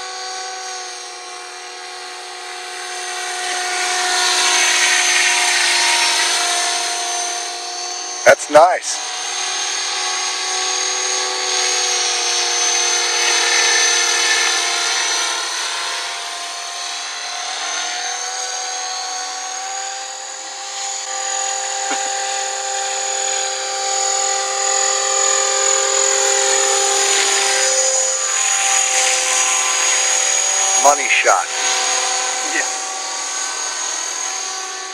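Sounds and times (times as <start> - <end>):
rc helicopter motor whine: 0.0 - 34.9.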